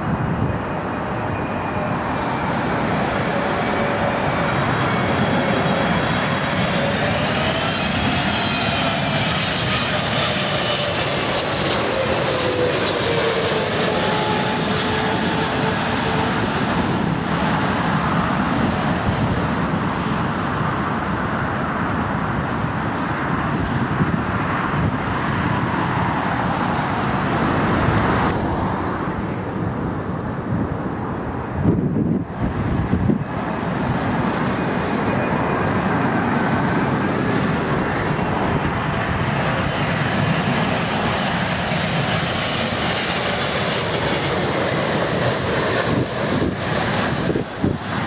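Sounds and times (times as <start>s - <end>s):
jet airliner passing: 0.0s - 48.0s.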